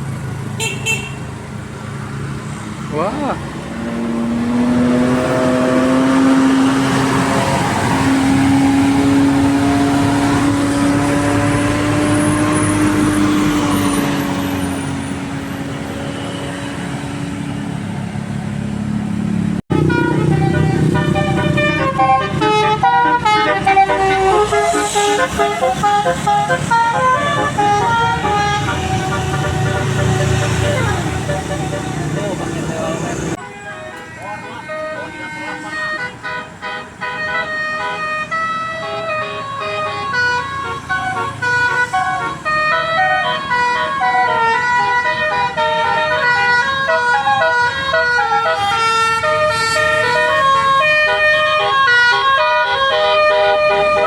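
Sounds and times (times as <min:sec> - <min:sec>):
bus engine: 0:00.0 - 0:54.0
multi-tone musical bus horn: 0:00.6 - 0:01.3, 0:04.6 - 0:17.7, 0:19.7 - 0:54.0.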